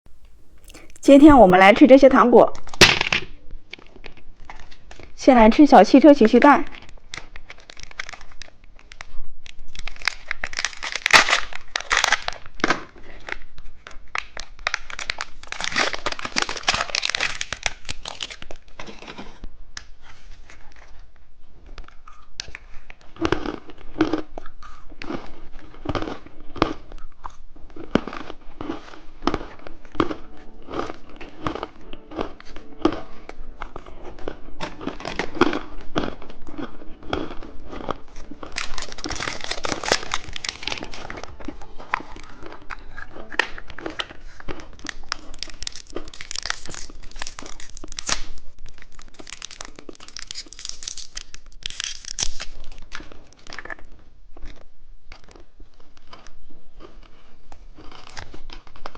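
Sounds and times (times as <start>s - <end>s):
plastic wrappers crinkling and tearing: 0.2s - 1.5s, 2.5s - 58.9s.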